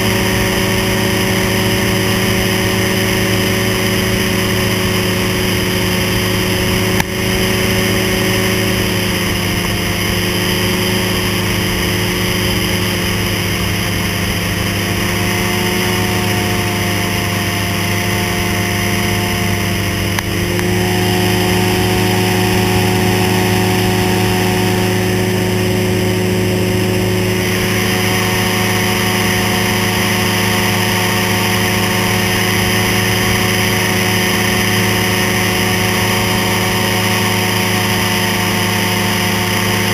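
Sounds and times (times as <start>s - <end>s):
airflow rushing: 0.0s - 38.8s
small aircraft engine running: 0.0s - 39.9s.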